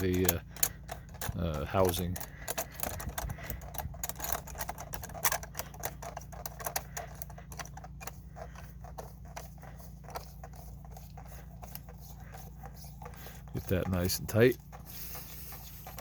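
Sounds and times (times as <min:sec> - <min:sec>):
plastic collar clicking while screwed: 0:00.0 - 0:16.0.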